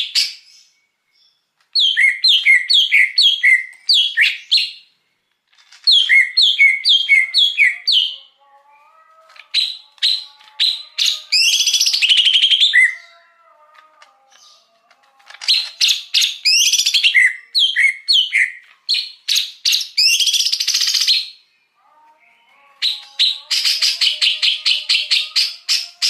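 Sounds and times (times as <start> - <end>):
bird singing loudly: 1.8 - 4.9, 5.9 - 13.7, 15.4 - 26.0.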